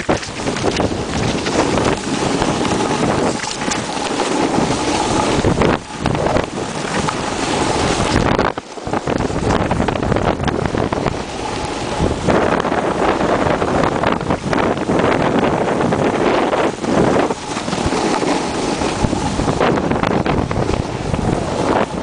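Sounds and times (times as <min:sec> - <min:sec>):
snowboard scraping on snow: 0:00.0 - 0:22.0
wind buffeting microphone: 0:00.0 - 0:22.0.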